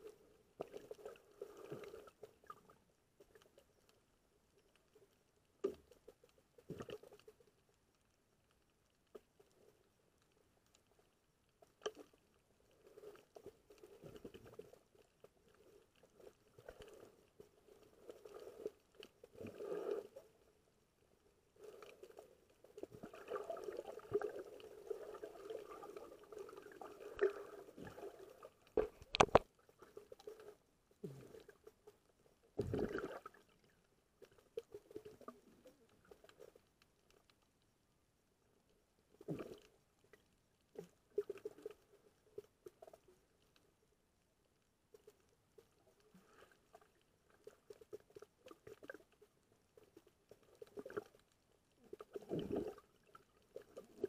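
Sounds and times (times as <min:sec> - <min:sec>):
underwater swishing and crackling: 0:00.0 - 0:54.0.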